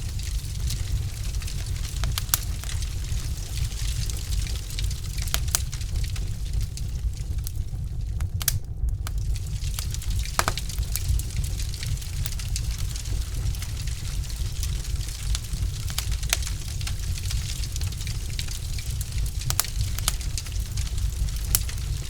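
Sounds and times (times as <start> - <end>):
logs crackling in fireplace: 0.0 - 22.0.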